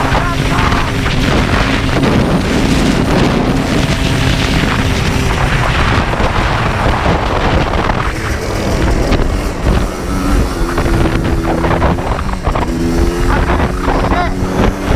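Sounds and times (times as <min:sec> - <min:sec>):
two-stroke engine running: 0:00.0 - 0:14.9
wind buffeting microphone: 0:00.0 - 0:14.9.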